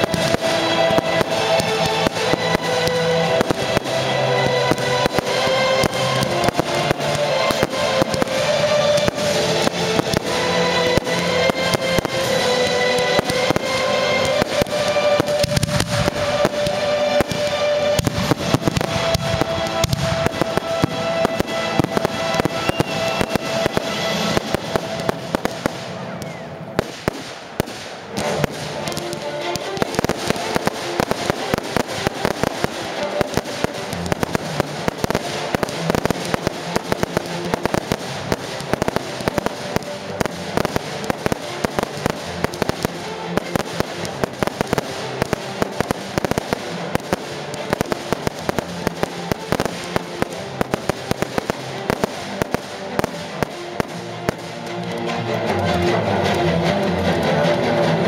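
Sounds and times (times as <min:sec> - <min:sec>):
fireworks bangs and crackling: 0:00.0 - 0:58.0
music playing: 0:00.0 - 0:58.0.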